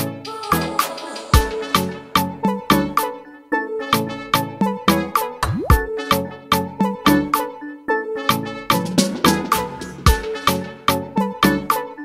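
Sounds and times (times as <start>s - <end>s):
upbeat background music: 0.0s - 12.0s.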